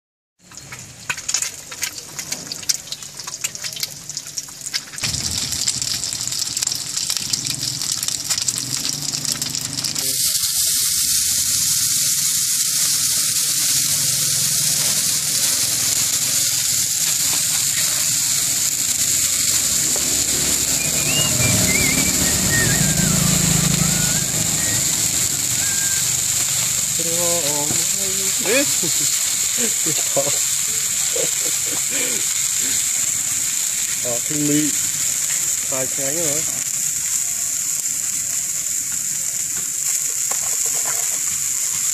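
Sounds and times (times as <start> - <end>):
egg frying with crackling spatter: 0.4 - 41.9
bean sprouts hissing in hot oil: 0.8 - 41.9.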